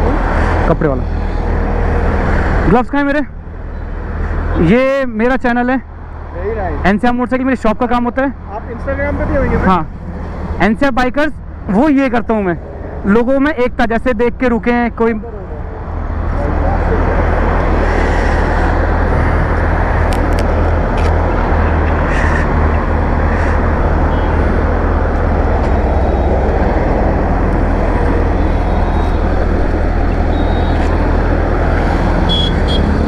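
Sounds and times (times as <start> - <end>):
highway traffic noise: 0.0 - 33.0.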